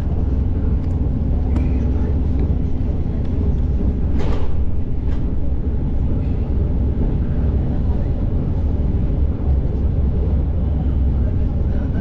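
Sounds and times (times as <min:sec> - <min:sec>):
moving train rumble: 0:00.0 - 0:12.0.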